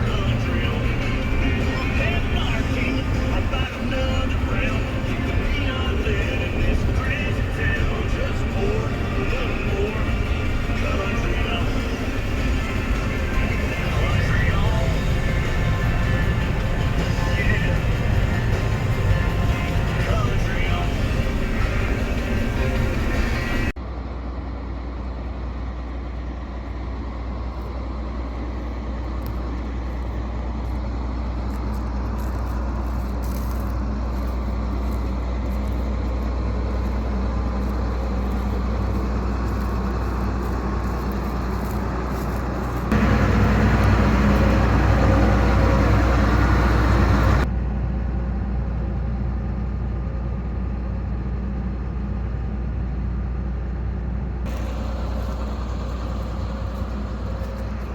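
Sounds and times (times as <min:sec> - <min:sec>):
large engine droning: 0:00.0 - 0:57.9.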